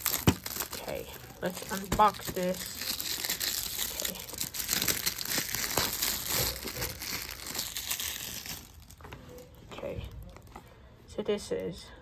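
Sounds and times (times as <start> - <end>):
plastic wrap crinkling: 0.0 - 10.5.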